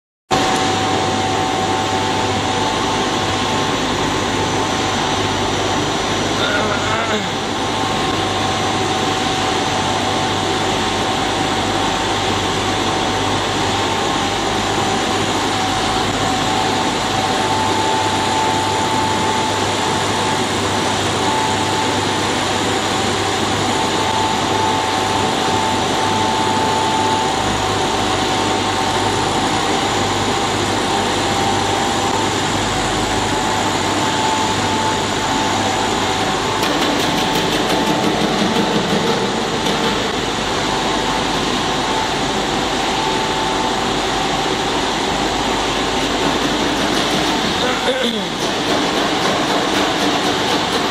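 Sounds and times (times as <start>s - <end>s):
constant high whine: 0.3s - 50.9s
intermittent machine whine: 0.3s - 50.9s
machinery hum and hiss: 0.3s - 50.9s.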